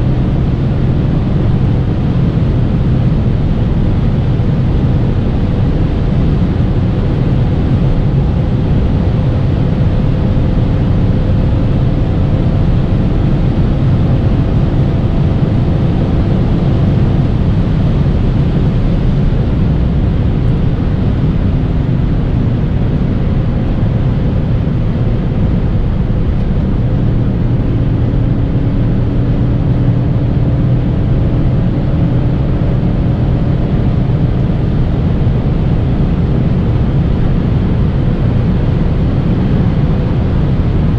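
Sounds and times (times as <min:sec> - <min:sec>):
car engine droning: 0:00.0 - 0:40.9.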